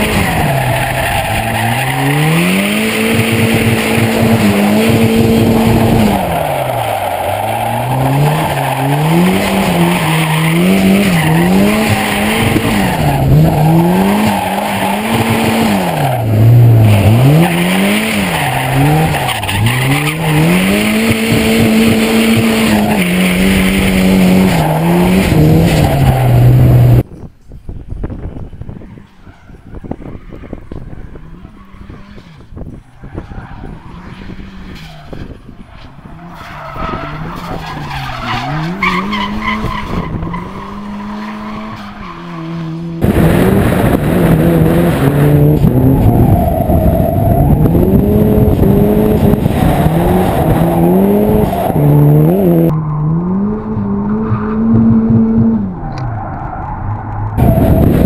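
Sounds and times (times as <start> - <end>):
car engine revving: 0.0 - 27.0, 33.4 - 58.0
tyres skidding: 0.0 - 27.0, 28.2 - 58.0.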